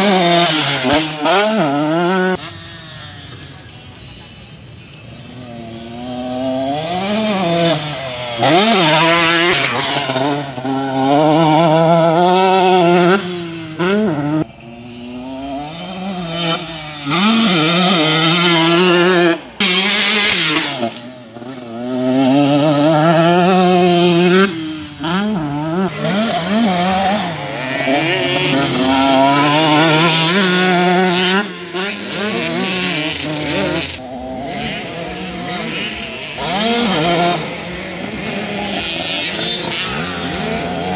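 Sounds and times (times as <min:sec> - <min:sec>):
dirt bikes revving: 0:00.0 - 0:40.9.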